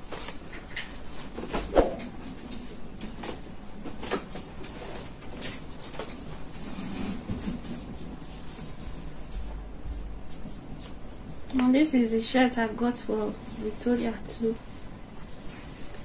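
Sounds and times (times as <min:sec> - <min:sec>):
packages and clothes rustling: 0:00.0 - 0:16.0.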